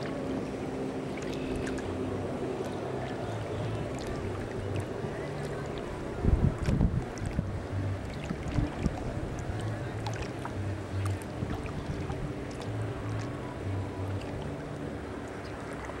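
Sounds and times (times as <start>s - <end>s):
low hum: 0.0s - 16.0s
water lapping around boat: 0.0s - 16.0s
wind on microphone: 0.0s - 16.0s.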